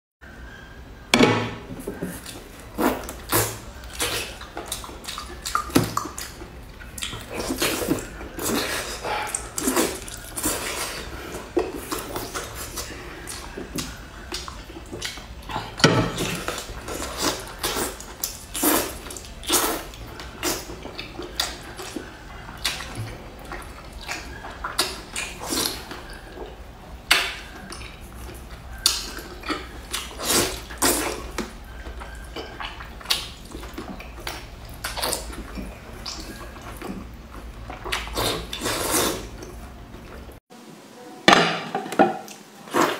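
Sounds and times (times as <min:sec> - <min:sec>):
wet slurping and chewing: 0:01.8 - 0:40.4.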